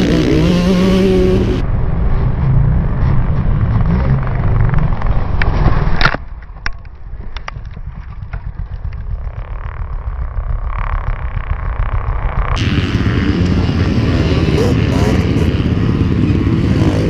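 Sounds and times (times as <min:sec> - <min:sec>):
dirt bike engine running: 0:02.7 - 0:17.0.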